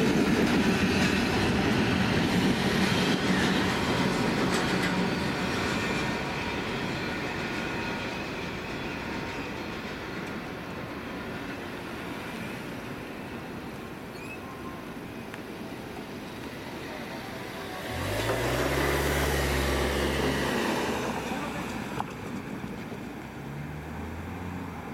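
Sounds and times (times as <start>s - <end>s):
freight train cars rumbling: 0.0s - 24.9s.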